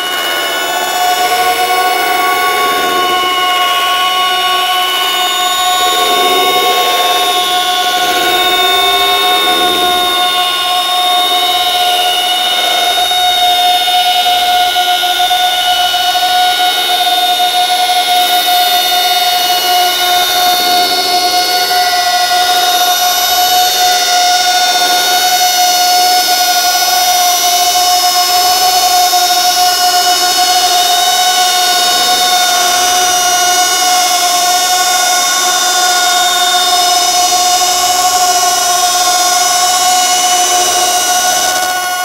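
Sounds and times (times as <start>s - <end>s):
loud sustained drone: 0.0s - 42.0s.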